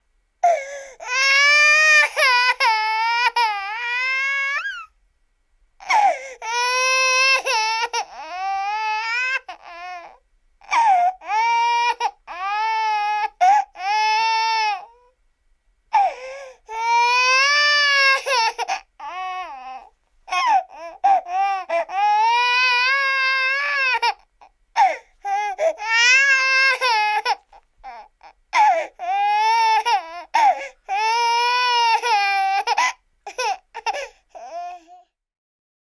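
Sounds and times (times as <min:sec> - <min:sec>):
baby crying: 0:00.4 - 0:04.9, 0:05.8 - 0:15.1, 0:15.9 - 0:35.2.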